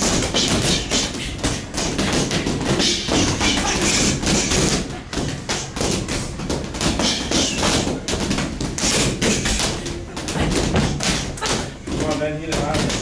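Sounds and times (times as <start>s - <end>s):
boxing gloves hitting: 0.0s - 13.0s
footwork on ring floor: 0.0s - 13.0s.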